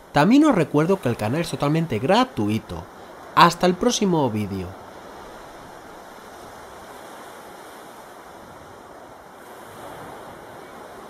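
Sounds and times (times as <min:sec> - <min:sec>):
sea waves: 0:00.0 - 0:11.0.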